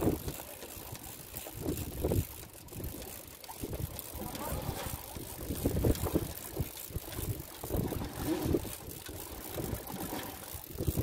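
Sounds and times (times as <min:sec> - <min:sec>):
water slapping boat hull: 0:00.0 - 0:11.0
wind buffeting microphone: 0:00.0 - 0:11.0.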